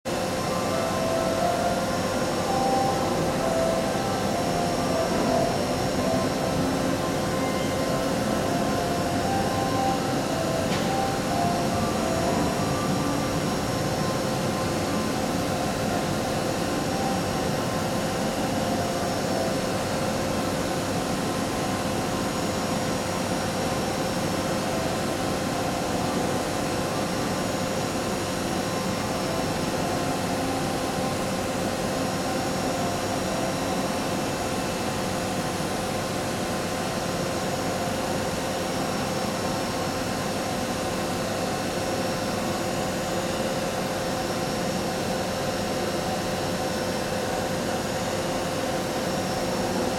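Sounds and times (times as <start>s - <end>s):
constant machine whine: 0.1s - 49.9s.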